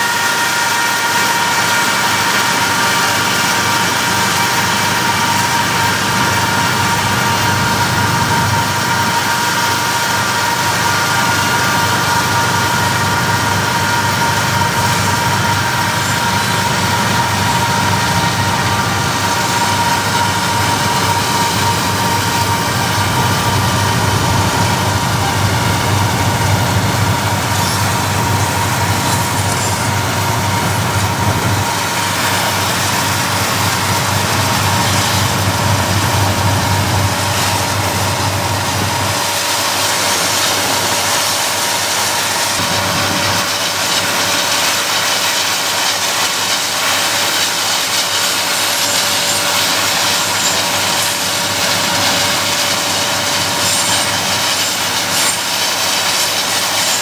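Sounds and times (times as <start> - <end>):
locomotive engine drone: 0.0 - 57.0
steady high whine: 0.0 - 57.0.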